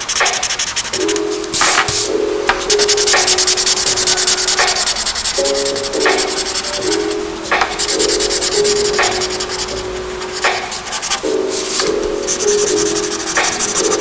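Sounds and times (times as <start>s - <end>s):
background music with sustained notes: 0.0s - 14.0s
felt-tip marker scratching on paper: 0.3s - 14.0s.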